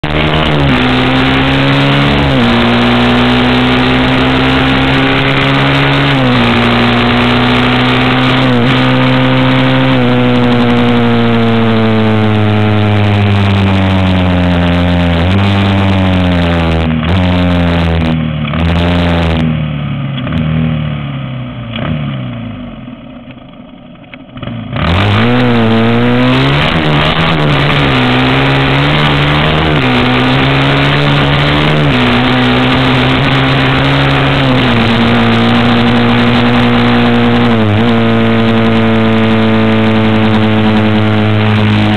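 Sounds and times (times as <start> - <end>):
dirt bike engine revving: 0.0 - 21.0, 24.4 - 41.9.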